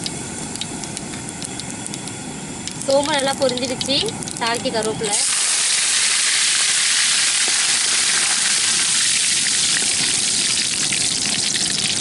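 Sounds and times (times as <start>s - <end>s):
leaves and seeds sizzling in oil: 0.0s - 12.0s.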